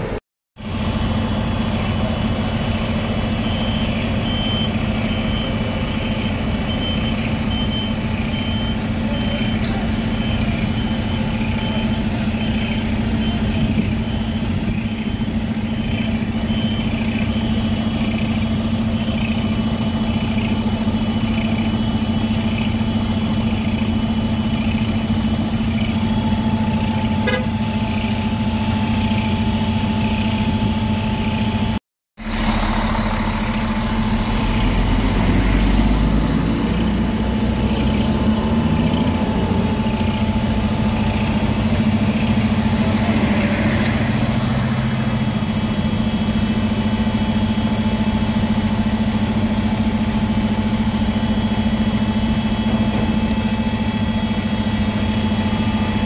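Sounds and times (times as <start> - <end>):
heavy engine low rumble: 0.0 - 56.0
traffic engine hum: 0.0 - 56.0.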